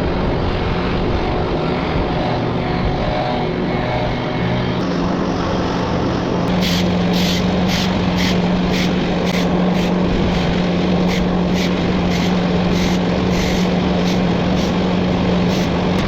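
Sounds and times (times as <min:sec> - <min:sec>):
wood chipper running: 0:00.7 - 0:16.0.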